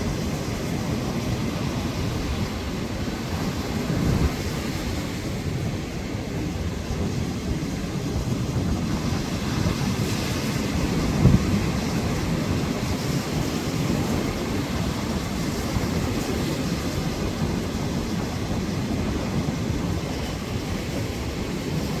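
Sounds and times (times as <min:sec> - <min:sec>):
crashing surf: 0:00.0 - 0:22.0
storm wind buffeting microphone: 0:00.0 - 0:22.0.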